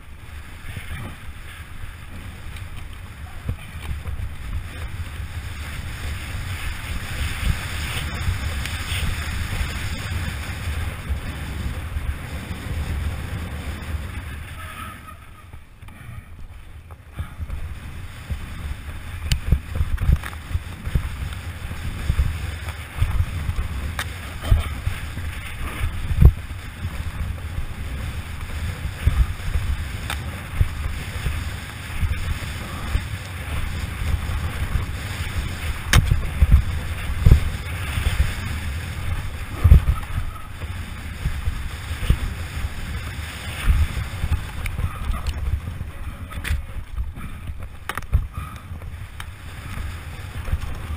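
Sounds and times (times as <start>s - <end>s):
bike knocking and rattling: 0.0s - 50.9s
bike tyres rolling on dirt: 0.0s - 50.9s
wind rushing over microphone: 0.0s - 50.9s.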